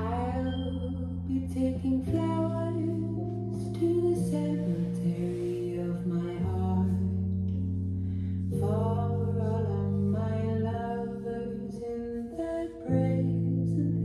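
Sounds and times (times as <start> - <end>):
music from vinyl record: 0.0 - 14.0.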